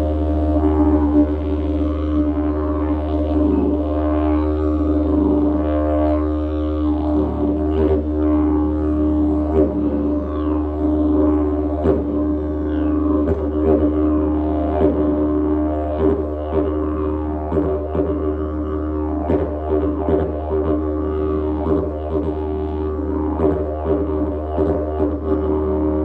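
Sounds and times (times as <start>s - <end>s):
didgeridoo drone: 0.0s - 26.0s.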